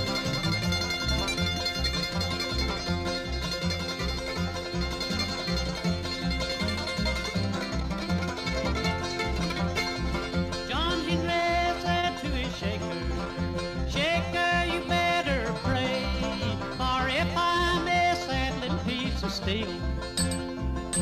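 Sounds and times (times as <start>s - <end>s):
bluegrass instrumental music: 0.0s - 21.0s.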